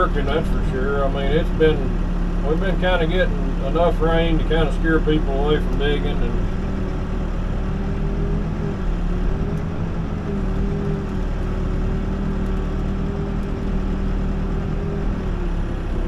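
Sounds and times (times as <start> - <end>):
backhoe diesel engine running: 0.0 - 16.0.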